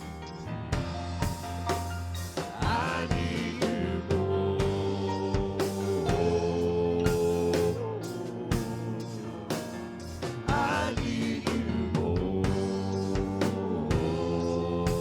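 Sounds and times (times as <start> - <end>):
held keyboard chords: 0.0 - 15.0
steady drum beat: 0.0 - 15.0.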